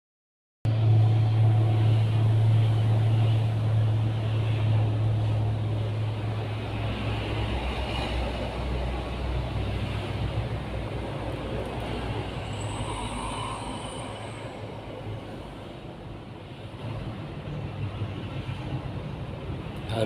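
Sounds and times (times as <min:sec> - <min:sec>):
low engine hum: 0:00.7 - 0:20.0.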